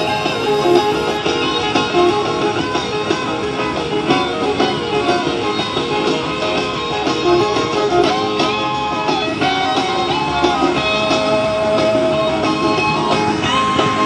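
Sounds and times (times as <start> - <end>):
guitar music: 0.0 - 14.0.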